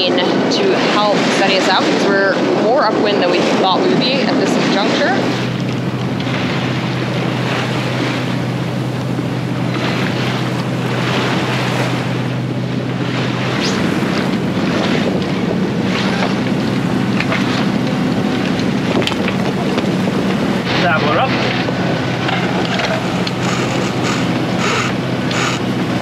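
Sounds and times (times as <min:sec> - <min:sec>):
low steady drone: 0:00.0 - 0:26.0
waves sloshing: 0:00.0 - 0:26.0
wind buffeting microphone: 0:00.0 - 0:26.0.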